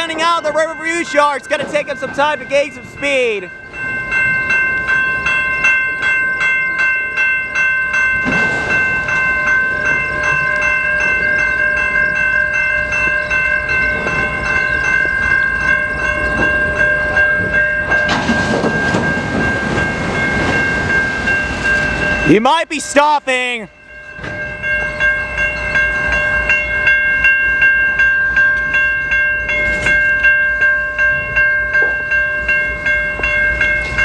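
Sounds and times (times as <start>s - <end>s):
freight train rumbling: 0.0s - 34.0s
railroad crossing bell ringing: 0.0s - 34.0s.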